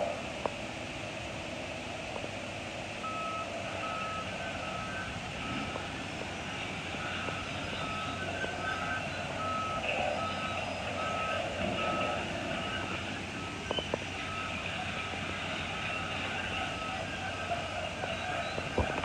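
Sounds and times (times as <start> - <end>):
reversing alarm beeping: 3.0 - 5.9, 6.5 - 19.0.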